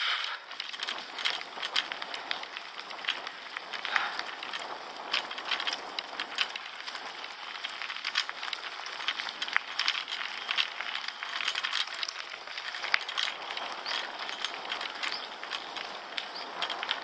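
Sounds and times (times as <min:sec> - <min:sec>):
bike rattling on stones: 0:00.0 - 0:17.0
bike tyres rolling on gravel: 0:00.0 - 0:17.0.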